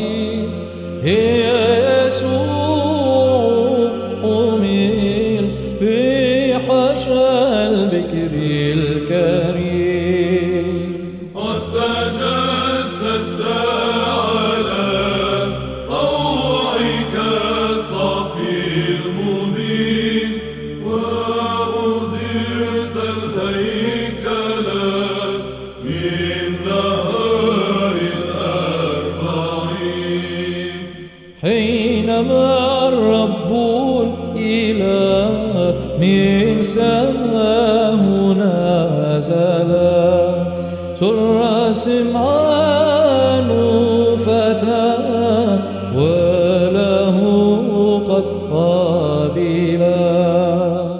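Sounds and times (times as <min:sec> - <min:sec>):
solo chanted vocal line: 0:00.0 - 0:50.9
steady low vocal drone: 0:00.0 - 0:50.9.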